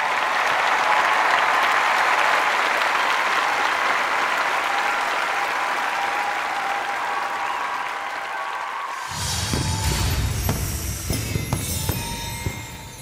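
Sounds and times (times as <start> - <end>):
audience applause: 0.0 - 10.7.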